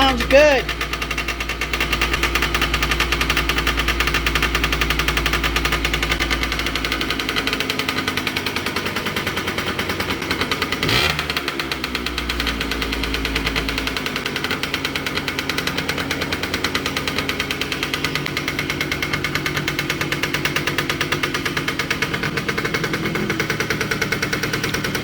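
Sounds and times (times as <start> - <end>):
two-stroke engine idling: 0.0 - 25.0.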